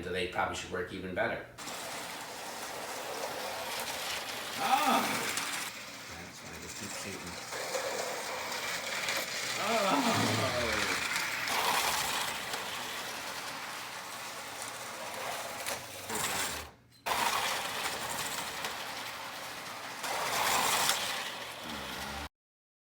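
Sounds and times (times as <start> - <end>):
slot car motors whirring and rattling: 1.6 - 22.3.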